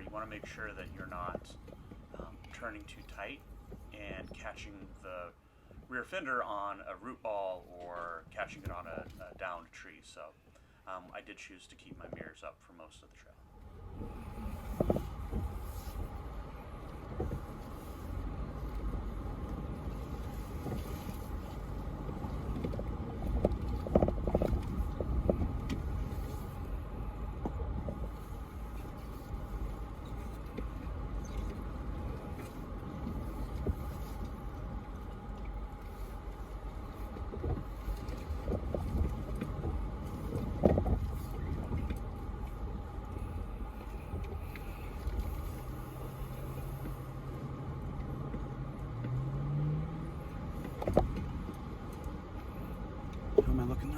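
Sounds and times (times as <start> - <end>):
low engine rumble: 0.0 - 53.9.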